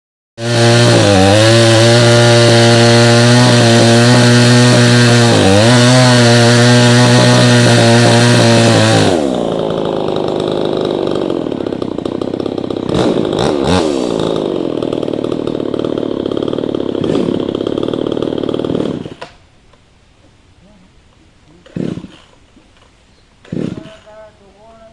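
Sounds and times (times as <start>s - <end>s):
chainsaw running at high revs: 0.4s - 19.3s, 21.6s - 22.4s, 23.5s - 24.2s.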